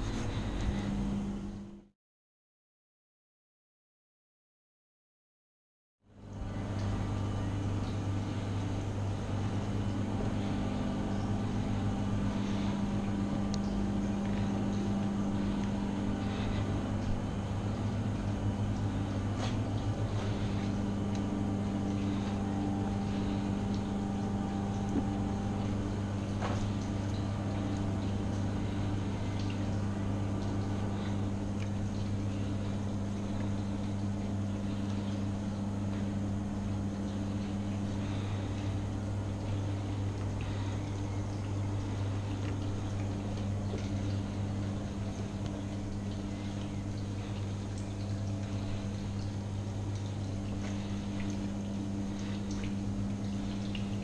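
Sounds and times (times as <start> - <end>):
low machine hum: 0.0 - 1.9, 6.0 - 54.0.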